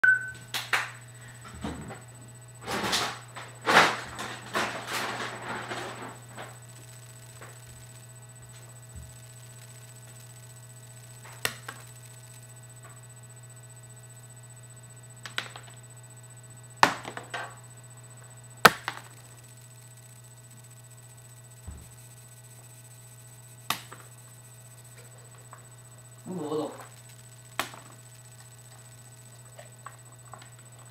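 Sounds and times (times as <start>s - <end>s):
low electrical hum: 0.0s - 30.9s.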